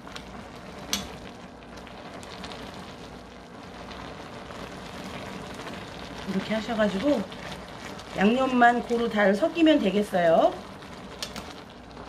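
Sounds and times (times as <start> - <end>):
broth boiling and bubbling: 0.0 - 12.0.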